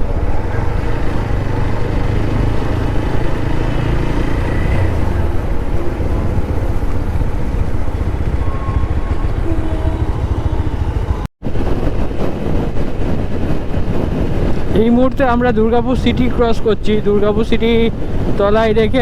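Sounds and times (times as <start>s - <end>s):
motorcycle engine rumble: 0.0s - 19.0s
wind and road noise: 0.0s - 19.0s.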